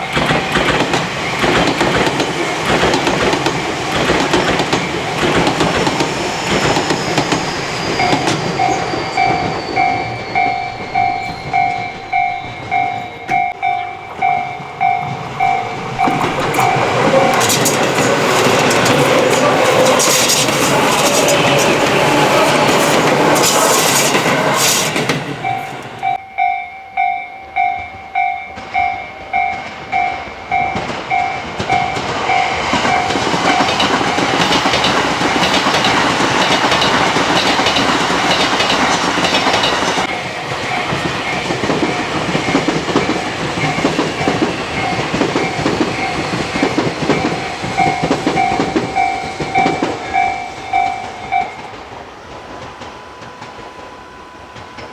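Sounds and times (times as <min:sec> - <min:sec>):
train wheels clacking over rail joints: 0:00.0 - 0:26.2, 0:28.6 - 0:54.9
electric train passing: 0:00.0 - 0:54.9
level-crossing bell dinging: 0:02.1 - 0:54.9.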